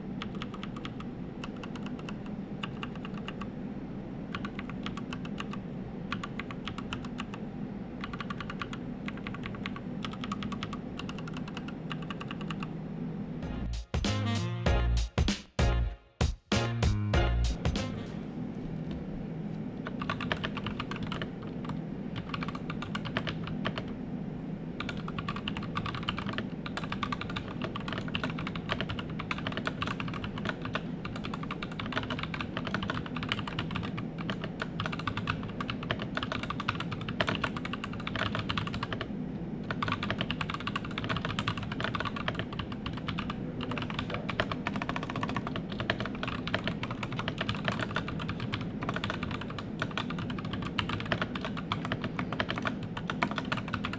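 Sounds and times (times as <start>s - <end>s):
mechanical keyboard typing: 0.2s - 3.5s, 4.3s - 7.4s, 8.0s - 12.7s, 19.8s - 24.0s, 24.8s - 53.9s.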